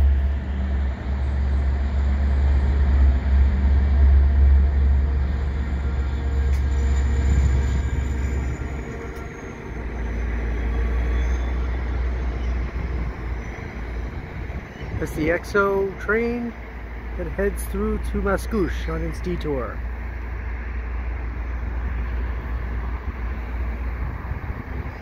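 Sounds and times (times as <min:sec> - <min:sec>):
diesel locomotive engine rumble: 0:00.0 - 0:25.0
high engine whine: 0:00.0 - 0:25.0
train coaches rolling past: 0:00.0 - 0:25.0.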